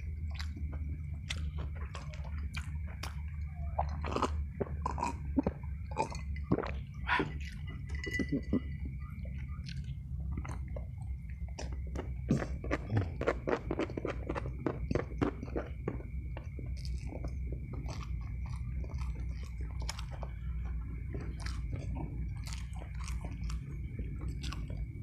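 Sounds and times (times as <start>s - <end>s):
steady low hum: 0.0s - 25.0s
wet chewing clicks and smacks: 0.0s - 25.0s.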